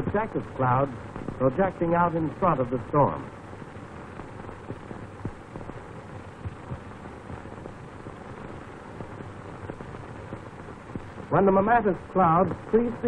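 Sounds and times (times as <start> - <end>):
crackles and pops: 0.0 - 13.0
faint hum-like tone: 0.0 - 13.0
film soundtrack hiss: 0.0 - 13.0.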